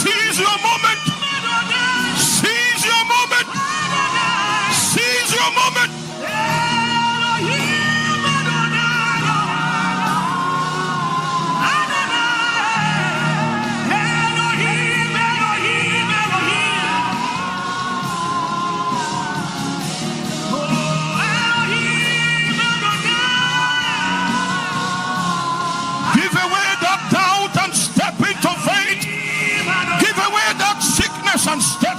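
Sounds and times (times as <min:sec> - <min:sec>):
person singing wordless notes: 0:00.0 - 0:31.9.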